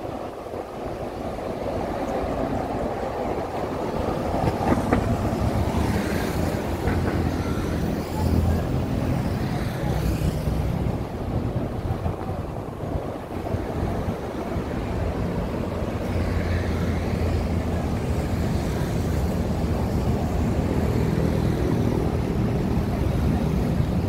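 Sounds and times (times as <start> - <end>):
street traffic rumbling: 0.0 - 24.0
wind buffeting microphone: 0.0 - 24.0.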